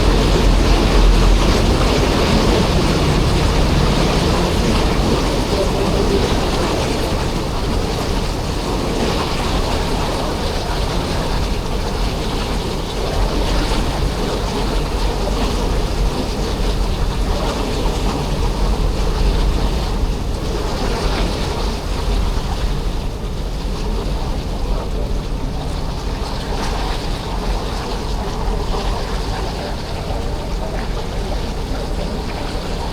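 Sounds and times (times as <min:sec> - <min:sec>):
ferry engine rumble: 0:00.0 - 0:32.9
water washing along hull: 0:00.0 - 0:32.9.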